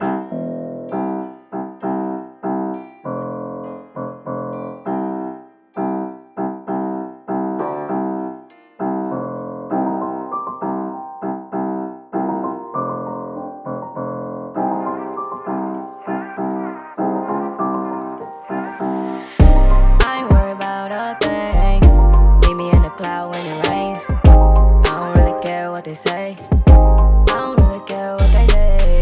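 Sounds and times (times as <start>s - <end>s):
keyboard playing piano chords: 0.0s - 29.0s.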